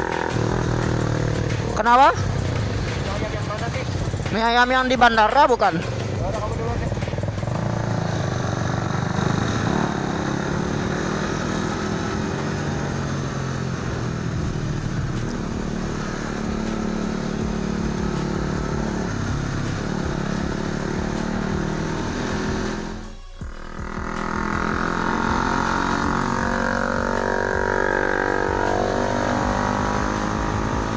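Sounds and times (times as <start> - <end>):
motorcycle engine and exhaust: 0.0 - 30.9
wind and road noise: 0.0 - 30.9.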